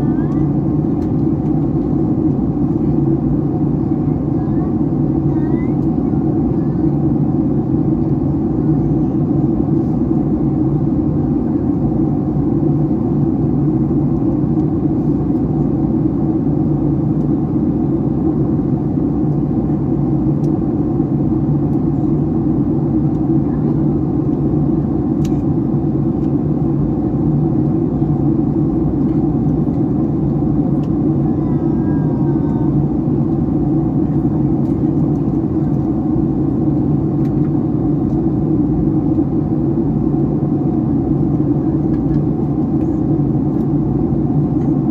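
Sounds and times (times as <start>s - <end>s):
airplane cabin engine hum: 0.0s - 44.9s.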